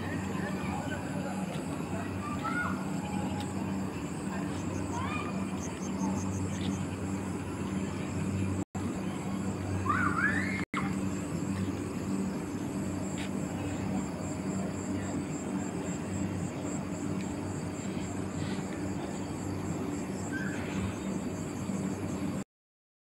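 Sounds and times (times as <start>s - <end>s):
low factory machine hum: 0.0s - 22.4s.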